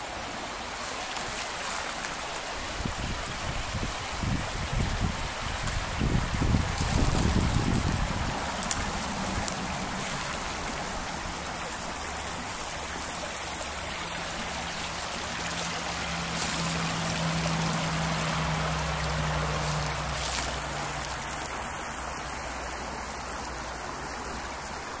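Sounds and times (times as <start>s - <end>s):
brook trickling over rocks: 0.0s - 25.0s.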